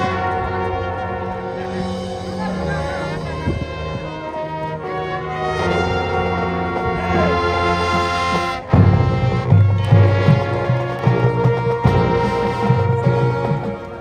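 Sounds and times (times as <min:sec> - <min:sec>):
brass chords: 0:00.0 - 0:14.0
marching band playing: 0:00.0 - 0:14.0.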